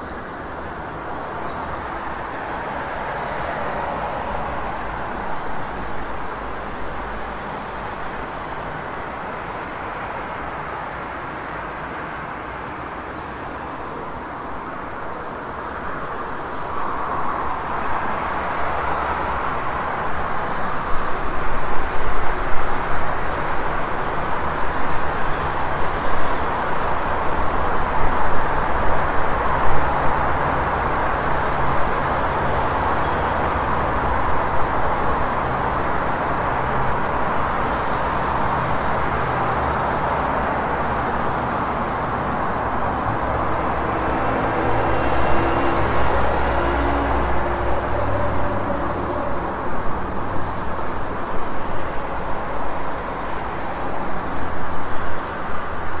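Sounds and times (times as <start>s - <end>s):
passing vehicles: 0.0s - 56.0s.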